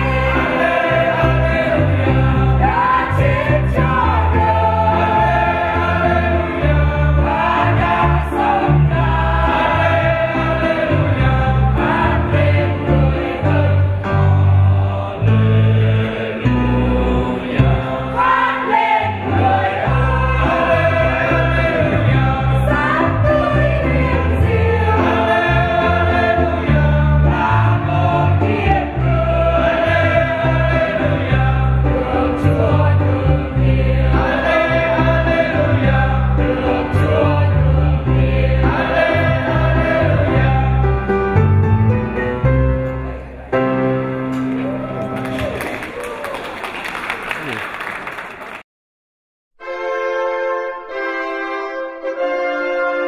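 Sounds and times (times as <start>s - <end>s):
choir singing a hymn: 0.0s - 42.5s.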